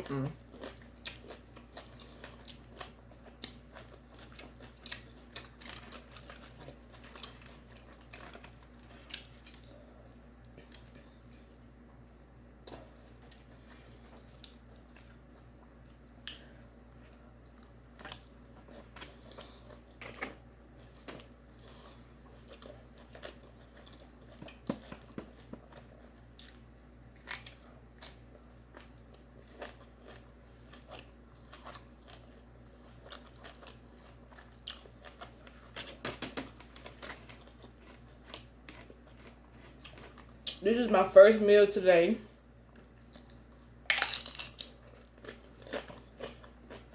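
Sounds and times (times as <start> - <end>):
person chewing food: 0.0 - 40.6, 42.6 - 46.9
low steady hum: 0.0 - 46.9.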